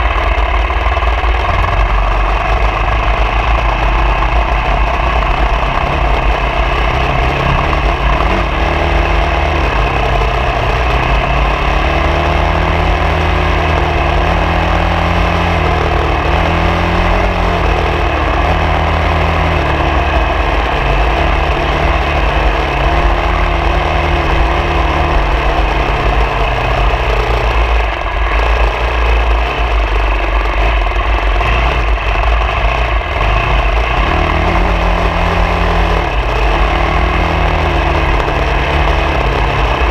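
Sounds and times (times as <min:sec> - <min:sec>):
off-road vehicle engine revving: 0:00.0 - 0:39.9
steady noisy rush: 0:00.0 - 0:39.9.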